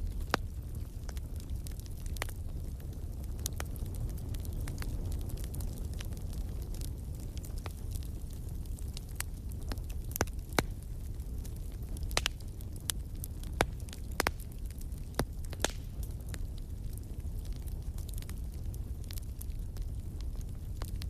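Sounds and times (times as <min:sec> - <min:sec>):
low fire rumble: 0:00.0 - 0:21.0
wood fire crackling: 0:00.0 - 0:21.0.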